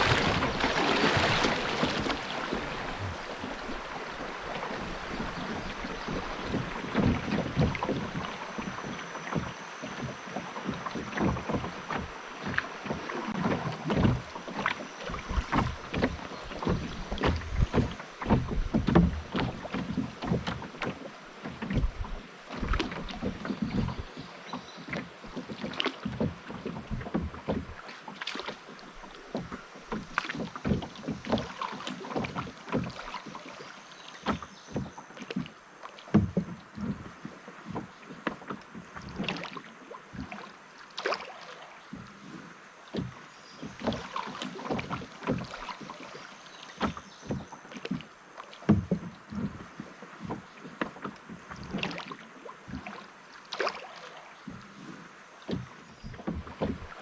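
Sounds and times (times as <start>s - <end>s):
water splashing around canoe: 0.0s - 57.0s.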